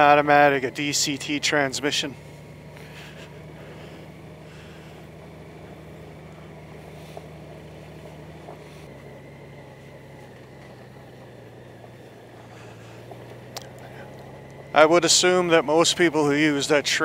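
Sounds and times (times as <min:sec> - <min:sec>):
motorcycle engine low hum: 0:00.0 - 0:17.0.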